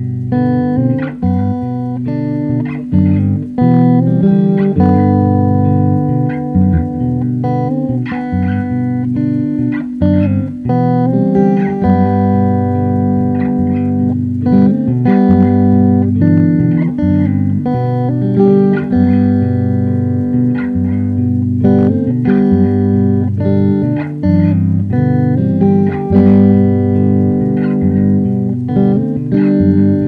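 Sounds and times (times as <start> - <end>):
bass line: 0.0 - 30.0
plucked guitar: 0.0 - 30.0.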